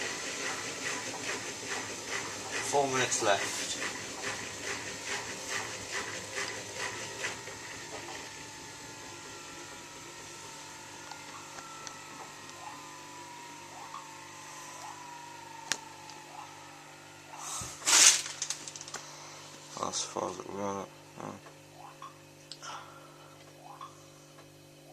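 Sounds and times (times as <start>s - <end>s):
washing machine motor whine: 0.0s - 24.9s.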